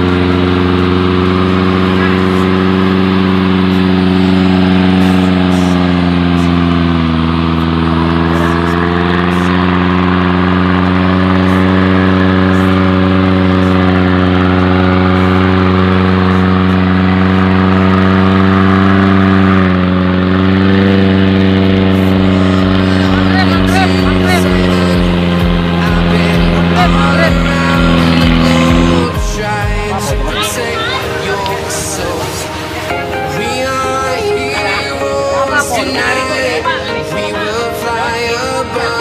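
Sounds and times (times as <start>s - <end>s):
off-road engine at high revs: 0.0s - 39.0s.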